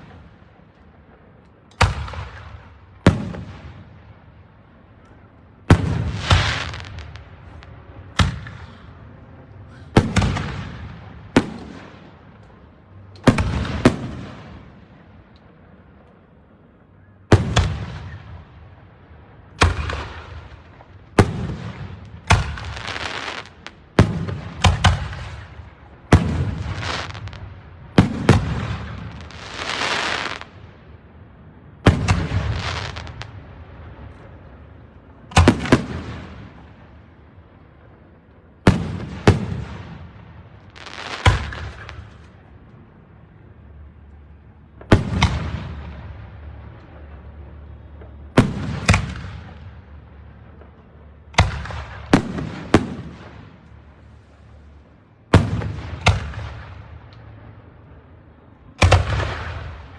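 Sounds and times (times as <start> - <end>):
fireworks bursting with echo: 0.0 - 59.9.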